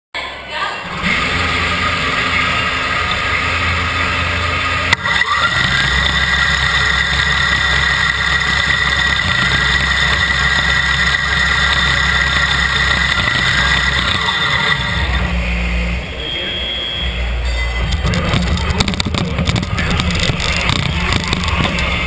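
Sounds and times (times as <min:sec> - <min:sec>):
electric motors whining: 0:00.8 - 0:22.0.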